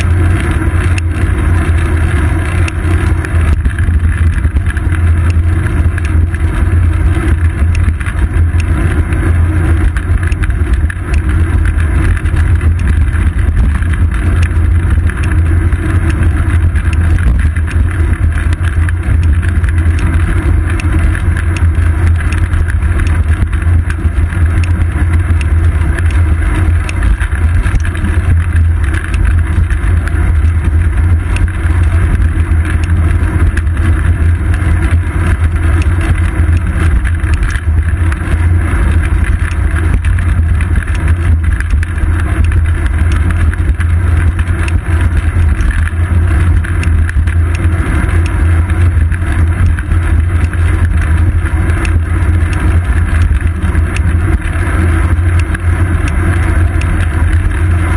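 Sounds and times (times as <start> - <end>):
road vibration rumble: 0.0 - 57.9.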